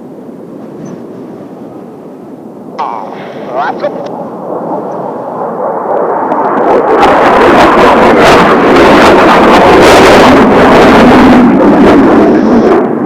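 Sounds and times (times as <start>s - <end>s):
jet engines roaring overhead: 0.0s - 13.0s.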